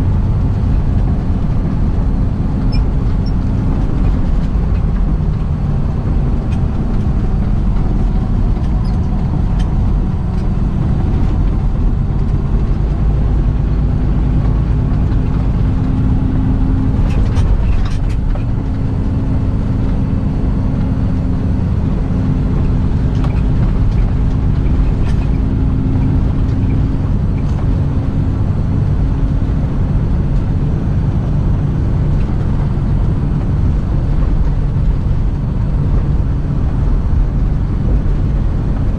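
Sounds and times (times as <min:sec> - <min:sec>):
road and tyre rumble: 0:00.0 - 0:38.9
truck engine drone: 0:00.0 - 0:38.9.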